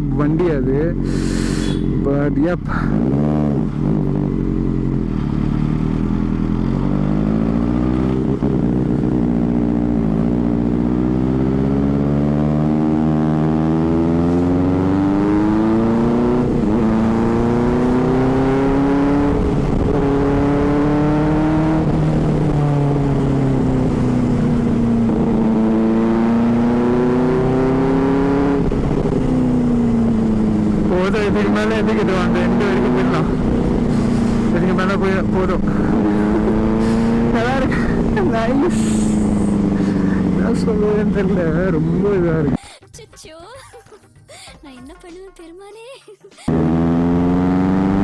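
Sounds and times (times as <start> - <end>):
motorcycle engine revving: 0.0 - 42.6, 46.5 - 48.0.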